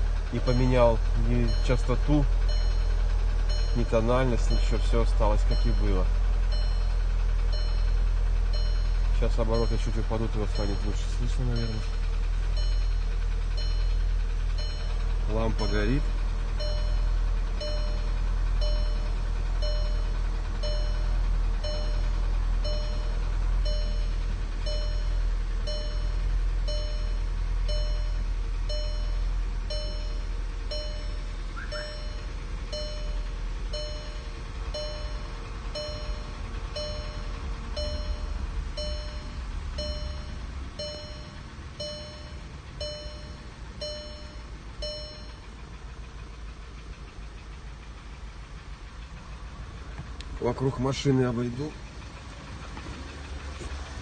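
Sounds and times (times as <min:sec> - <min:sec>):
car engine idling with knock: 0:00.0 - 0:54.0
dashboard warning chime: 0:00.3 - 0:46.3.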